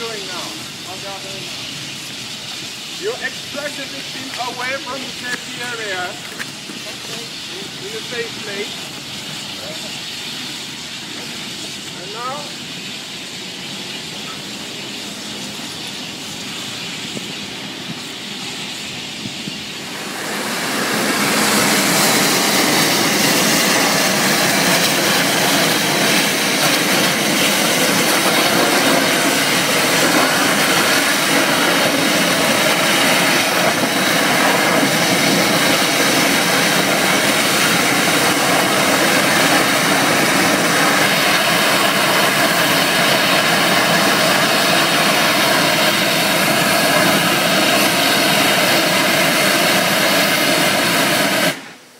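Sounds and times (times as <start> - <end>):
roaring hiss of gas fire: 0.0 - 51.9
water spray from hoses: 0.0 - 51.9.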